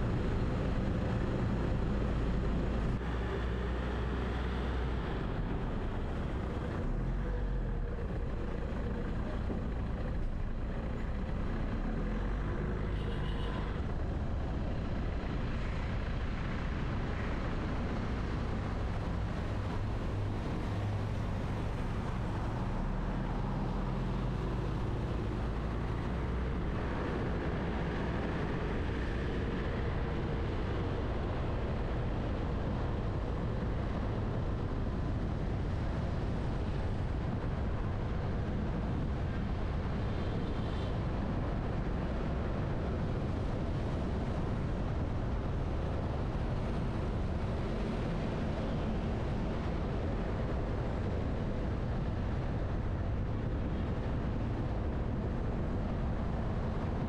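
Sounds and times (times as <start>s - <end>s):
car driving in traffic: 0.0s - 57.0s.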